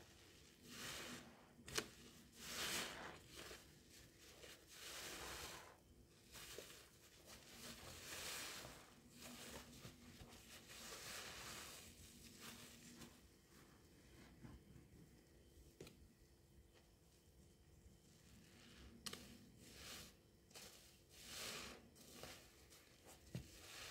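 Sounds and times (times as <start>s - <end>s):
sponge squelching in soapy water: 0.0s - 14.3s, 18.4s - 23.9s.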